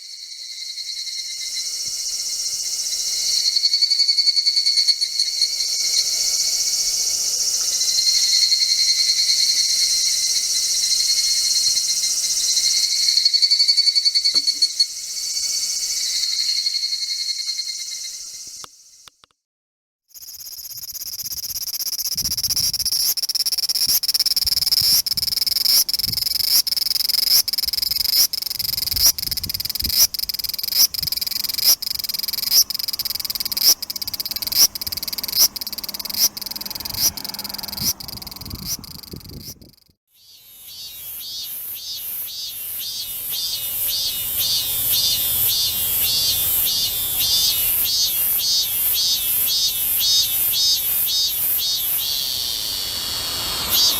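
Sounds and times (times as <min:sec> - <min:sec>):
cicada pulsing buzz: 0:00.0 - 0:19.2, 0:20.1 - 0:53.9
cicada quick pulsing call: 0:00.0 - 0:19.3, 0:20.1 - 0:53.9.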